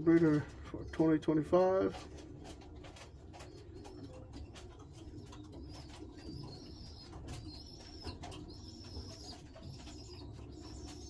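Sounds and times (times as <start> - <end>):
pigeons cooing: 2.0 - 11.0.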